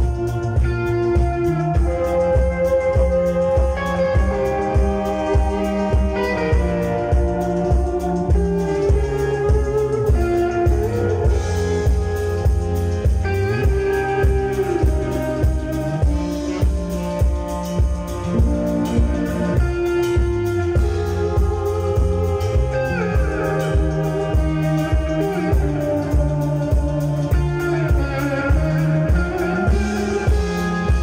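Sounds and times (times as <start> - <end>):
bent sliding guitar notes: 0.0 - 31.0
electric blues band playing: 0.0 - 31.0.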